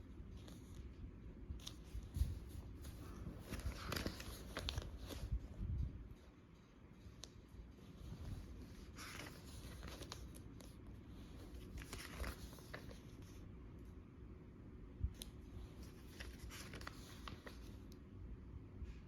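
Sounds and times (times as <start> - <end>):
paper pages rustling: 0.2 - 13.4, 15.2 - 18.0.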